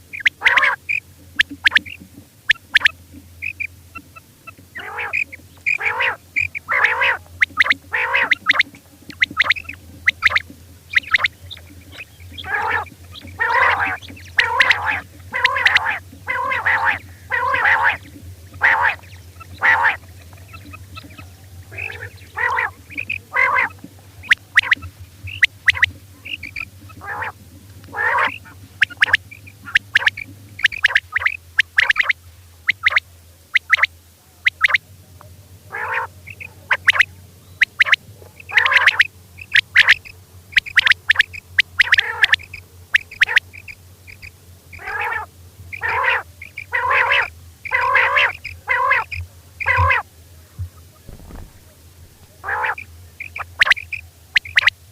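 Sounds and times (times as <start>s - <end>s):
quail calling: 0.0s - 34.8s, 35.7s - 54.9s
faint low hum: 0.0s - 54.9s.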